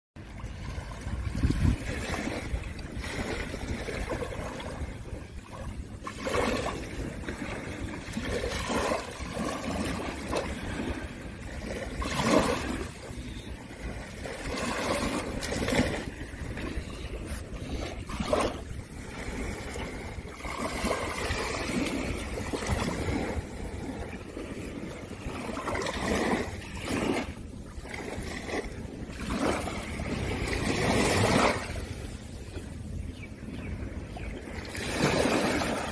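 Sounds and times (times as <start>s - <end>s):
small waves washing onto sand: 0.2s - 35.9s
wind rumbling on microphone: 0.2s - 35.9s.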